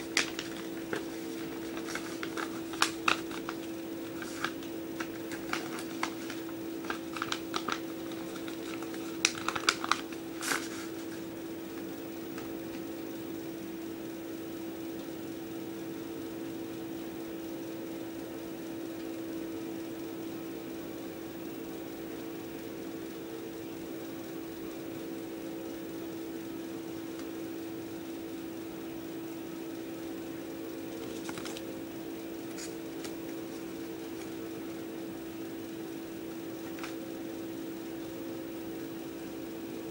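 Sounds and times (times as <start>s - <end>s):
electric fan motor hum: 0.0s - 39.9s.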